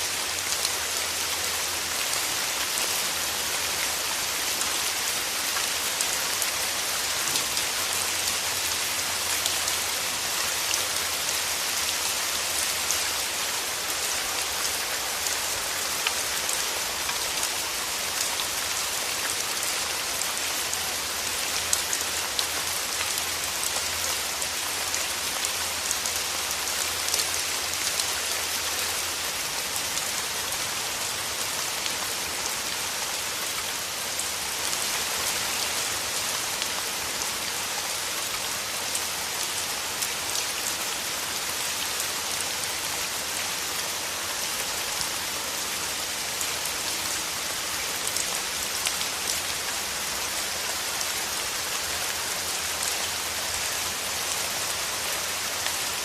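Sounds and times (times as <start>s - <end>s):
rain falling through trees: 0.0s - 56.0s.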